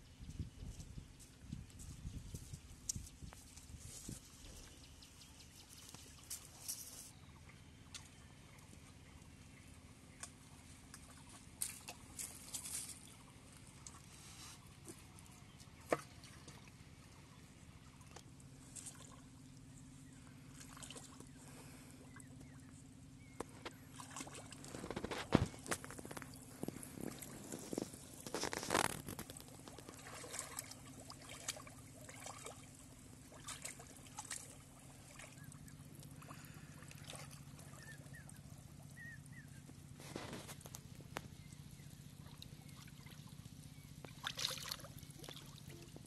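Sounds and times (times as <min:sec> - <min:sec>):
faint low hum: 0:00.0 - 0:46.0
water splashing and sloshing: 0:01.2 - 0:46.0.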